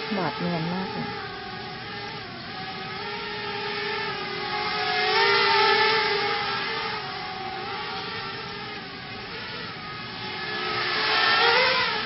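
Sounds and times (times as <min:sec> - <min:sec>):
quadcopter motors buzzing: 0:00.0 - 0:12.0.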